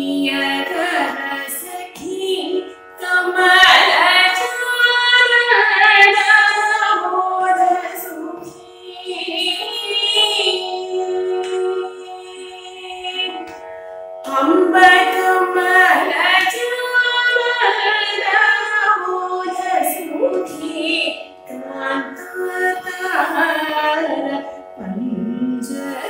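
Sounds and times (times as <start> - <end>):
woman singing ornamented phrases: 0.0 - 13.5, 14.2 - 26.0.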